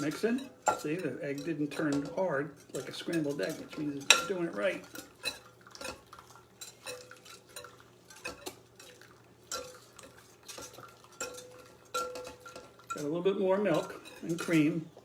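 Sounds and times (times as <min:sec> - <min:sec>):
utensil clinking against a bowl: 0:00.0 - 0:15.0.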